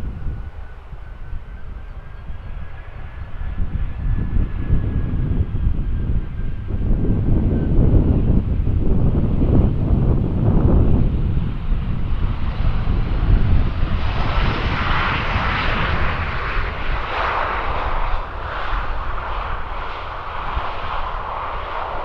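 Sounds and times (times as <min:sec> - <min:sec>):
jet engines rushing: 0:00.0 - 0:22.0
wind rumbling on microphone: 0:00.0 - 0:22.0.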